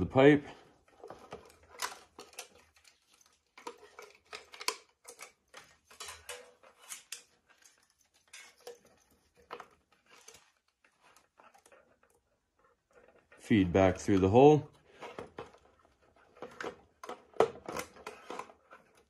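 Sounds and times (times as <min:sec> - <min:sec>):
plastic zip tie clicks and rustles: 0:00.9 - 0:12.0, 0:14.8 - 0:19.0.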